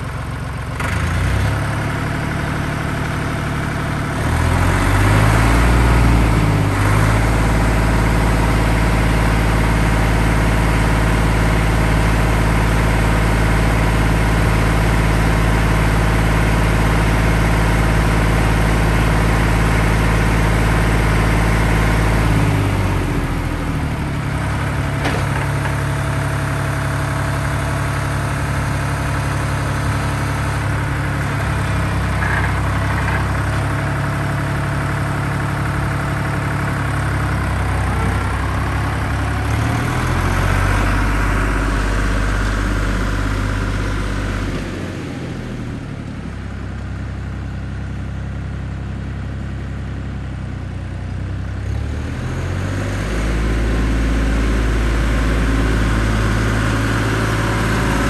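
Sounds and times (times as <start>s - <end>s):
tractor diesel engine idling and revving: 0.0s - 58.0s.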